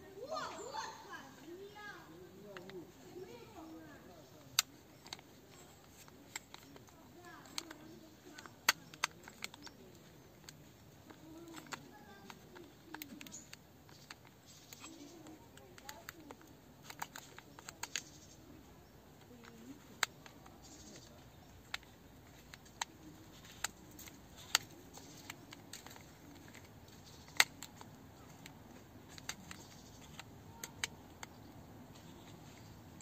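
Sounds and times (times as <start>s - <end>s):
camera lens aperture clicks: 4.5s - 18.4s, 19.2s - 33.0s.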